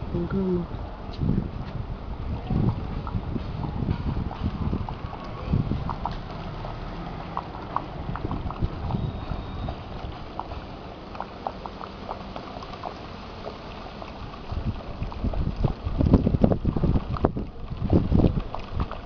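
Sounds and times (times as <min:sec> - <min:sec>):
wind rumble on microphone: 0:00.0 - 0:19.0
water pouring into tank: 0:02.2 - 0:19.0.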